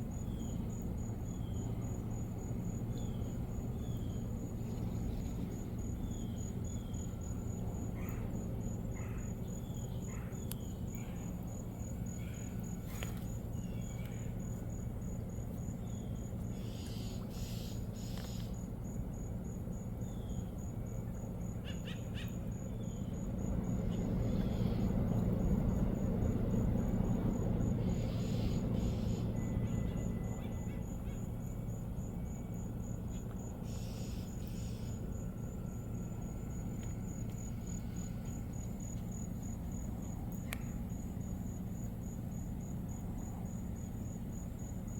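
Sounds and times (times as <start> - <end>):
cricket chirping: 0.0 - 44.9
low steady rumble: 0.0 - 44.9.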